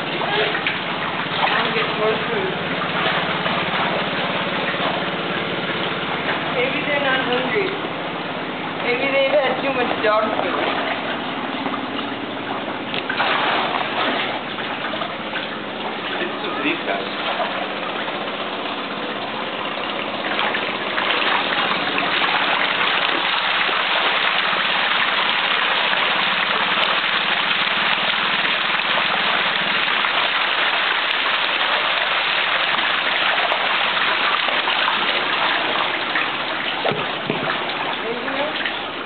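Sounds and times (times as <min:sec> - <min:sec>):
fish thrashing and splashing: 0:00.0 - 0:39.0.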